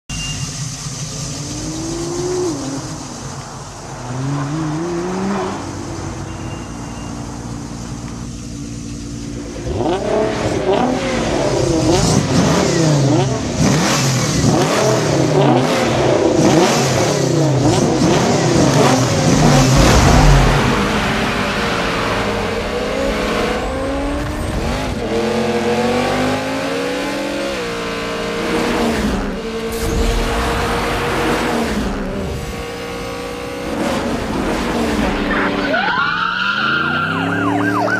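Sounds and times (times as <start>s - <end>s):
car engines revving: 0.1s - 37.9s.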